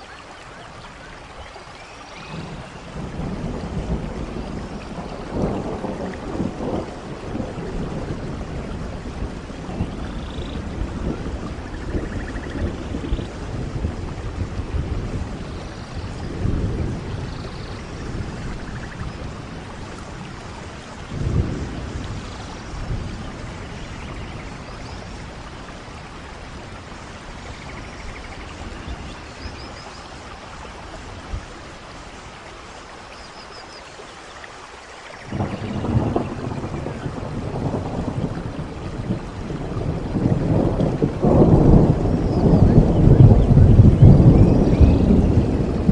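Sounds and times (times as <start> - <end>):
steady rain: 0.0 - 45.9
rolls of thunder: 2.2 - 29.8, 35.3 - 45.9.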